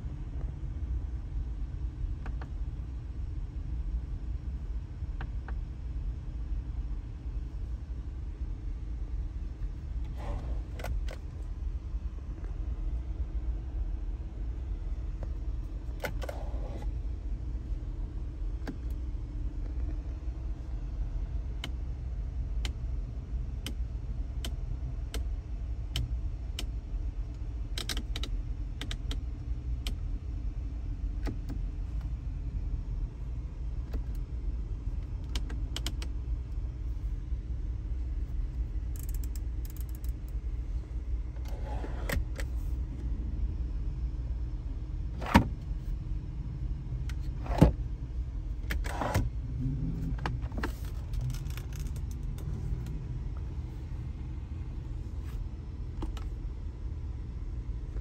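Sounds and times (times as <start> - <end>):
car cabin hum: 0.0 - 58.0.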